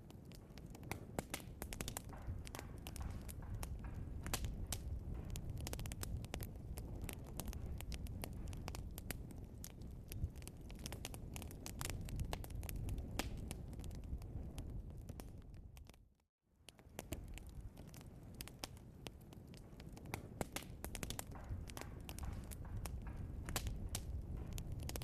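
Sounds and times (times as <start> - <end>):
burning logs crackling and popping: 0.0 - 25.0
low rumble of flames: 0.0 - 25.0.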